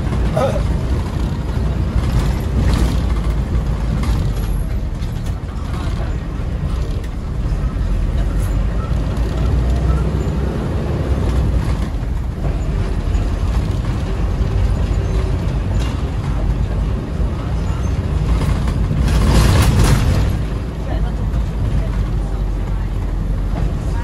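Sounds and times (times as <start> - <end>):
minibus engine and road rumble: 0.0 - 24.0.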